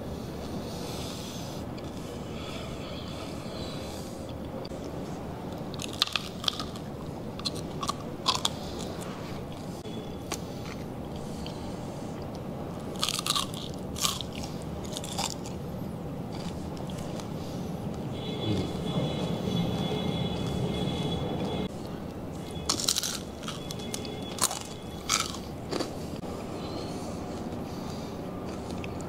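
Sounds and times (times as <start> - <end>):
crunchy chewing: 0.4 - 29.0.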